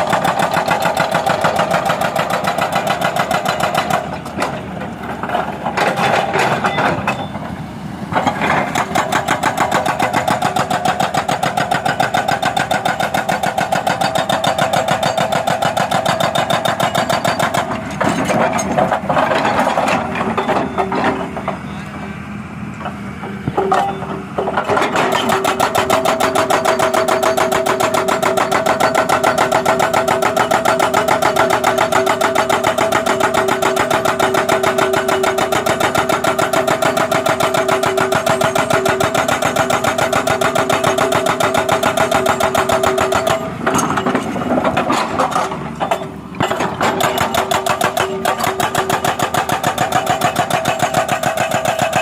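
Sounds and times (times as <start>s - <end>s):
hydraulic breaker pounding pavement: 0.0s - 22.1s, 22.7s - 52.0s
excavator engine running: 0.0s - 52.0s.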